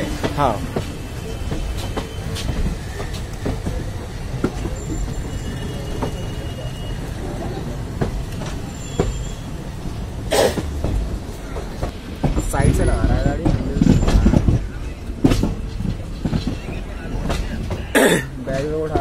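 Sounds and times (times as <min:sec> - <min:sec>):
train rumbling slowly: 0:00.0 - 0:19.0
wheels knocking and clicking: 0:00.0 - 0:19.0.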